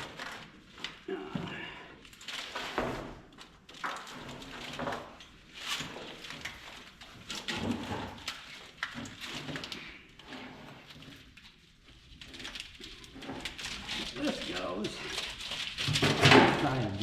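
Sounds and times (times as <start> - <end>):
wiring harness rustling and scraping: 0.0 - 17.0.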